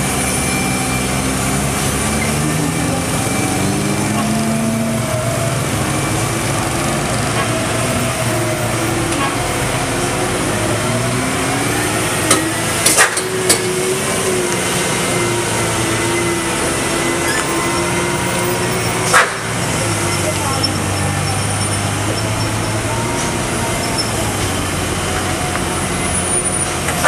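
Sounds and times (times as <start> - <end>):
truck diesel engine running: 0.0 - 27.0.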